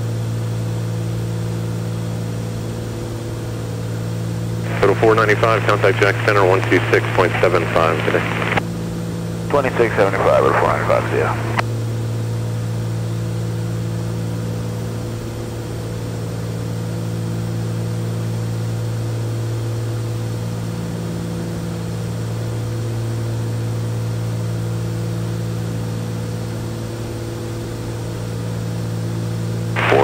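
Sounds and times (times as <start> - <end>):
aircraft propeller engines droning: 0.1 - 30.0.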